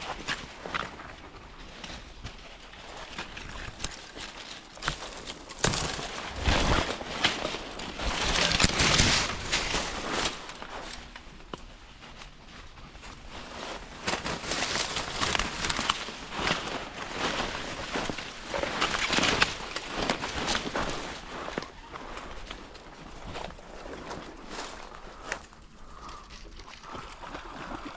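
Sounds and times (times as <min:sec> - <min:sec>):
footsteps through dry grass: 0:00.0 - 0:27.8.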